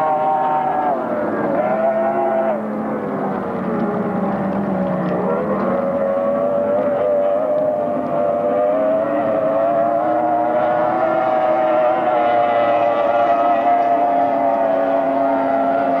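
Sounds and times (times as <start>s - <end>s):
powerboat engines droning: 0.0s - 16.0s.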